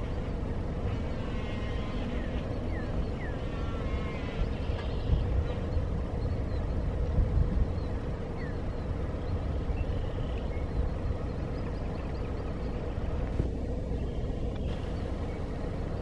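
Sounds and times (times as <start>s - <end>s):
faint constant hum: 0.0s - 16.0s
low steady rumble: 0.0s - 16.0s.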